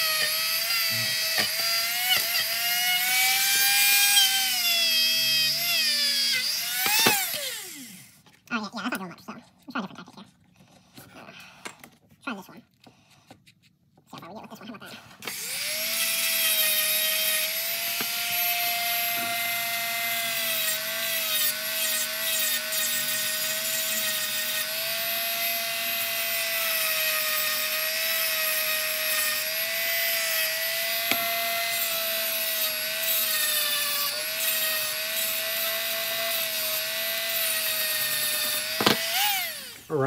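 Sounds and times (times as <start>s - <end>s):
rotary tool whining on metal: 0.0s - 8.4s, 15.2s - 40.0s.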